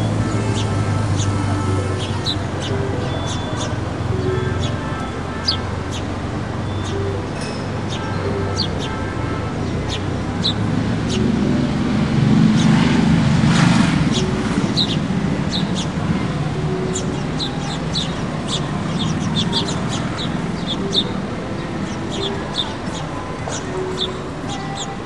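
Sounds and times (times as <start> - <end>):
small birds chirping: 0.0 - 11.3, 14.1 - 25.0
city traffic rumble: 0.0 - 25.0.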